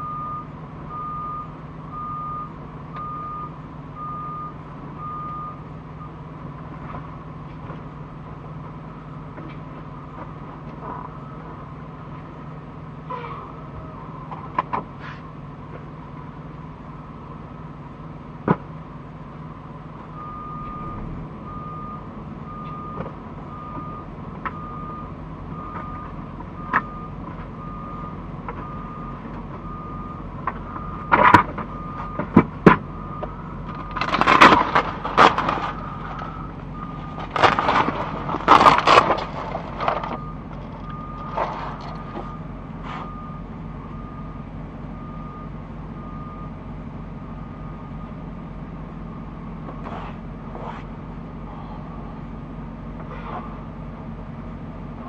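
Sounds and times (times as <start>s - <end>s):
truck reversing alarm beeps: 0.0s - 14.5s, 19.2s - 50.7s
low engine drone: 0.0s - 55.0s.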